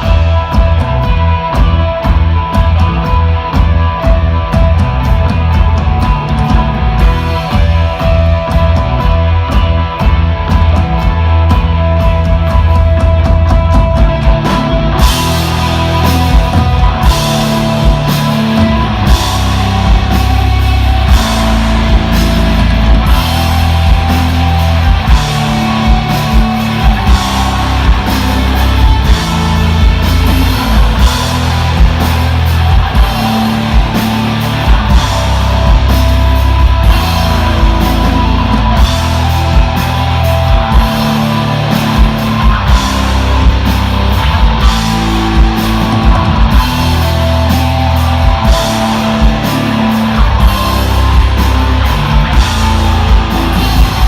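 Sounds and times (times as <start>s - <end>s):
bass guitar: 0.0s - 54.0s
distorted electric guitar: 0.0s - 54.0s
drum kit beat: 0.0s - 54.0s.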